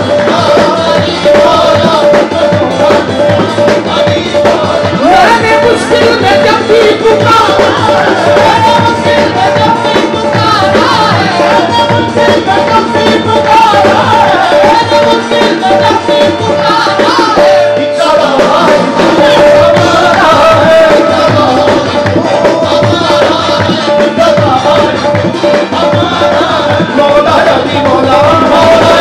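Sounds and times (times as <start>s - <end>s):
lead singer's voice: 0.0s - 29.0s
tabla drumming: 0.0s - 29.0s.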